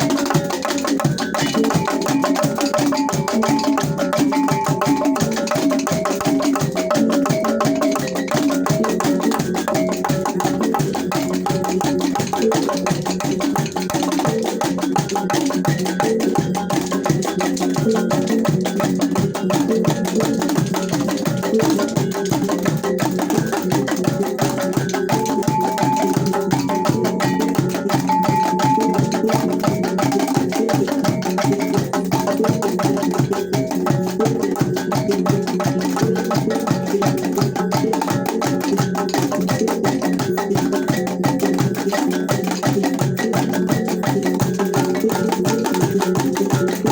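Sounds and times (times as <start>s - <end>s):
struck pitched percussion ensemble: 0.0s - 46.9s.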